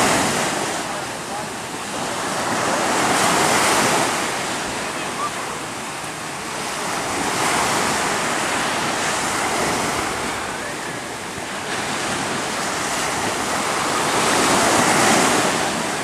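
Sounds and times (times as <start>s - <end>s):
small waves breaking on shore: 0.0s - 16.0s.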